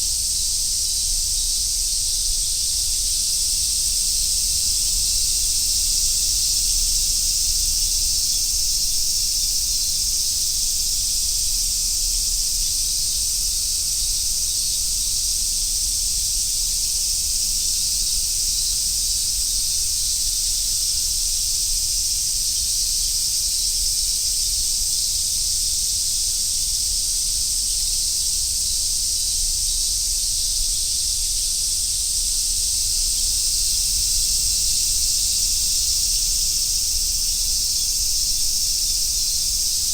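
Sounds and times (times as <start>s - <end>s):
cicadas singing: 0.0s - 39.9s.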